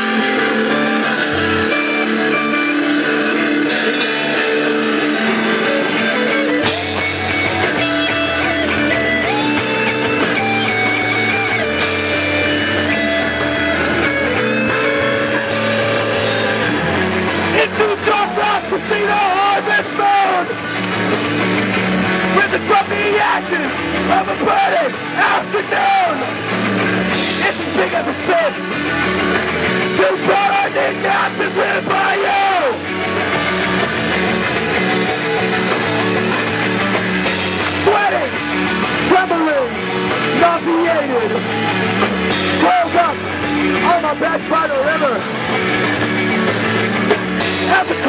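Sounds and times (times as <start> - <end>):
drums and cymbals: 0.0 - 48.0
electric guitar: 0.0 - 48.0.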